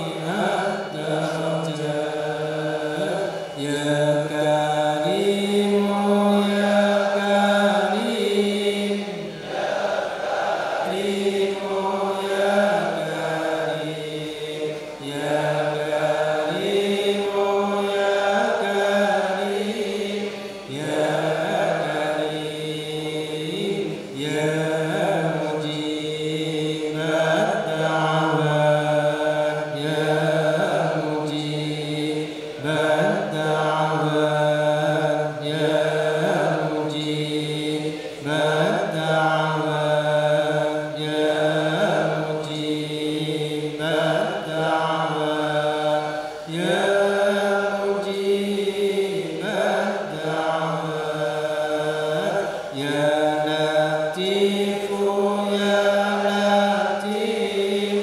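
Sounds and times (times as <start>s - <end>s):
voices chanting in unison: 0.0s - 58.0s.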